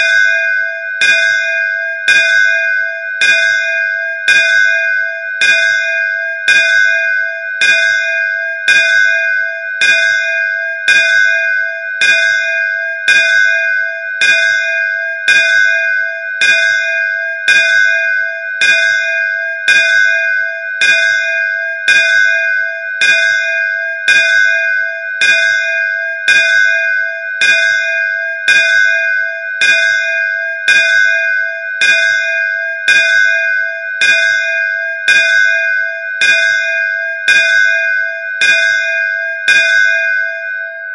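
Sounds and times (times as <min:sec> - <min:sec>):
temple bell ringing: 0:00.0 - 0:40.9.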